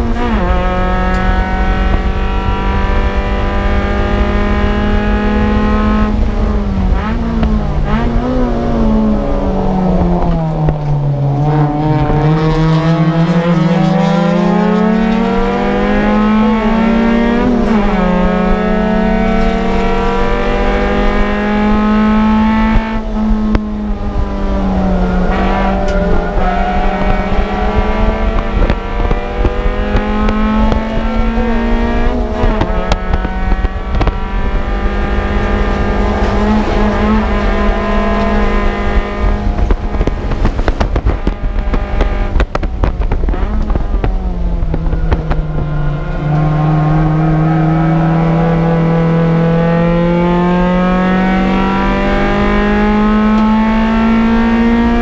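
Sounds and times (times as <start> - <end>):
car engine revving high: 0.0 - 55.0.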